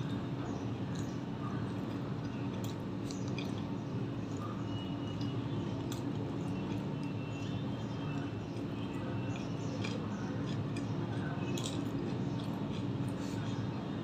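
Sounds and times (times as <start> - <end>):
steady low hum: 0.0 - 14.0
close chewing with wet mouth clicks: 0.9 - 3.7, 4.3 - 13.6.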